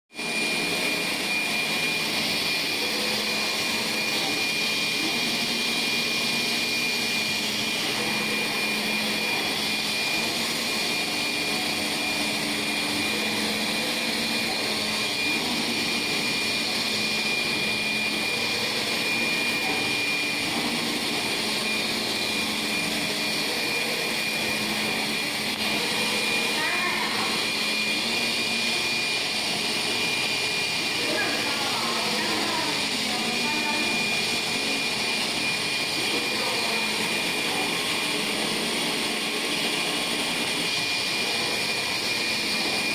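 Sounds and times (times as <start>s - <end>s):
printer whirring: 0.1s - 42.9s
high-pitched whine: 0.2s - 42.9s.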